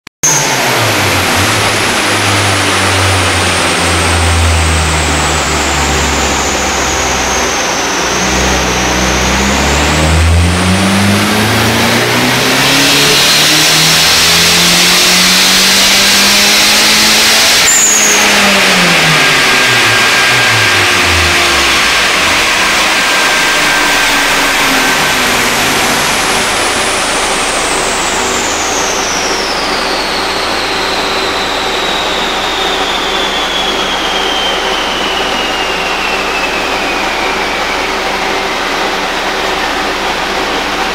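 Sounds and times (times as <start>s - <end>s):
car engine revving: 0.2s - 40.9s
high whine dropping in pitch: 0.2s - 40.9s.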